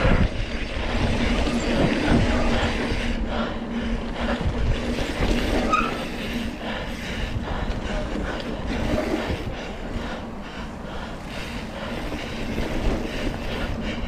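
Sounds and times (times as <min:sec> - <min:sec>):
bike clattering and rattling: 0:00.0 - 0:14.0
bike tyres rumbling: 0:00.0 - 0:14.0.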